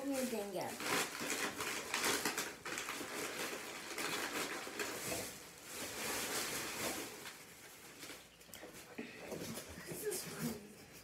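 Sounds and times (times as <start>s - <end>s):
snack bags rustling and crinkling: 0.0s - 8.9s.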